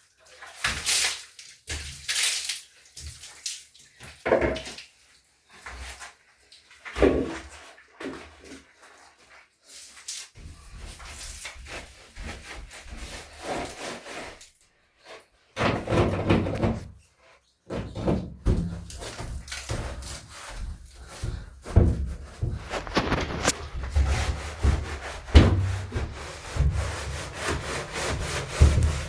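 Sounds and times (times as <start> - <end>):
scrubbing a hard surface: 0.2 - 29.0.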